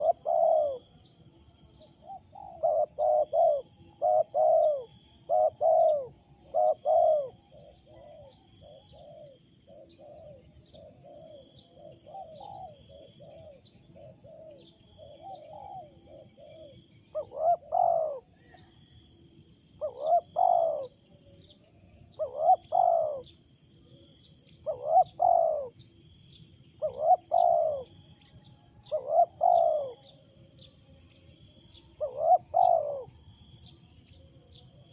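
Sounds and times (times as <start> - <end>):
dove cooing: 0.0 - 25.8, 26.8 - 30.3, 31.6 - 33.4
small birds chirping: 0.0 - 34.9.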